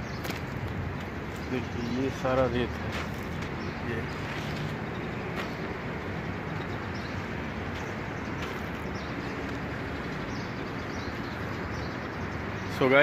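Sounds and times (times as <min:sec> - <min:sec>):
outdoor ambient rush: 0:00.0 - 0:13.0.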